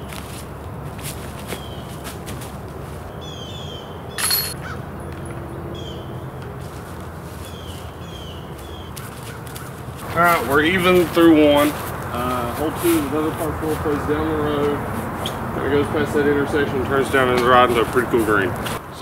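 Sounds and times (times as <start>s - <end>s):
outdoor background noise: 0.0s - 19.0s
birds chirping: 1.4s - 2.0s, 3.1s - 19.0s.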